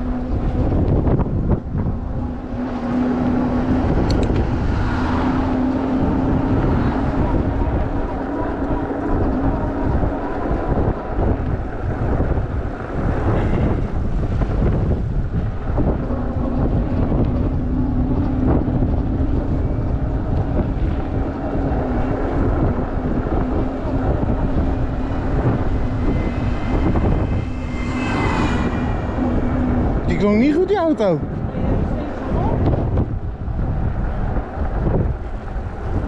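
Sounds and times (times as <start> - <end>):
electric motor whine: 0.0 - 30.7
wind buffeting microphone: 0.0 - 36.0.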